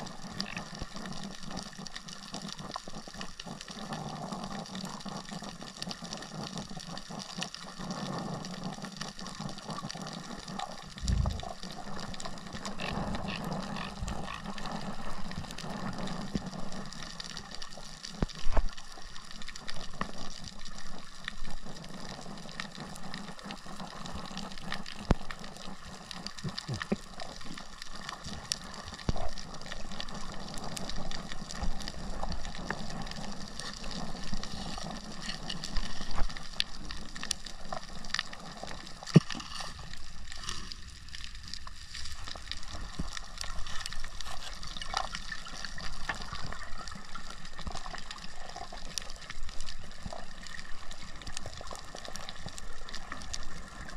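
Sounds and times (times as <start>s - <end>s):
underwater rush of water: 0.0s - 53.9s.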